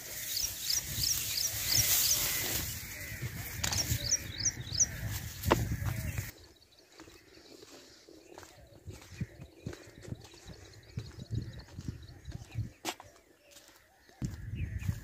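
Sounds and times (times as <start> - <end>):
bird chirping: 0.0 - 13.7.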